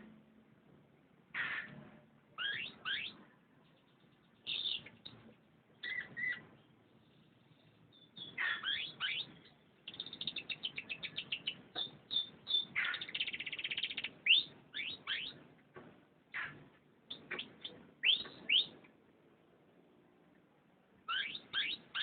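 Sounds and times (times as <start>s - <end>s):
canary singing: 1.3s - 15.5s, 16.3s - 18.9s, 21.0s - 22.0s.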